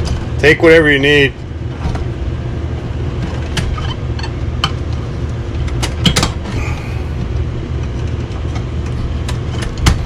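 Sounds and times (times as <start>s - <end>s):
steady low rumble: 0.0s - 9.8s.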